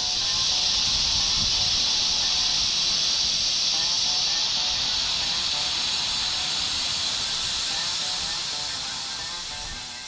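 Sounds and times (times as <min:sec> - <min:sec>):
steam hissing from kettle: 0:00.0 - 0:10.0.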